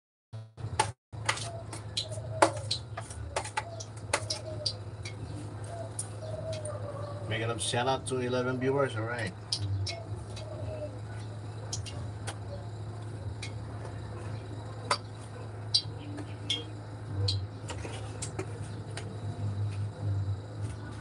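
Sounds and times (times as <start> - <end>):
steady low hum: 0.4 - 21.0.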